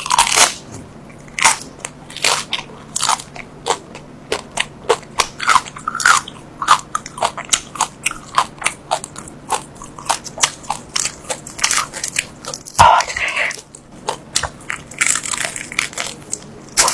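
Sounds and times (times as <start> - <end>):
wet crunchy chewing: 0.0 - 16.9.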